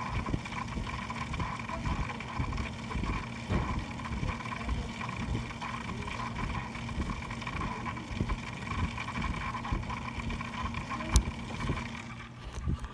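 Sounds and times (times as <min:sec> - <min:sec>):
computer grinding hum with whine: 0:00.0 - 0:12.9.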